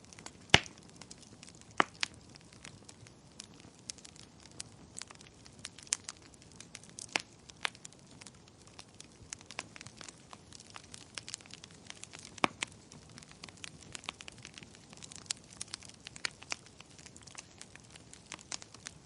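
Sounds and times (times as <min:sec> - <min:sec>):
faint fire hiss: 0:00.0 - 0:19.0
fire crackling and popping: 0:00.0 - 0:19.0.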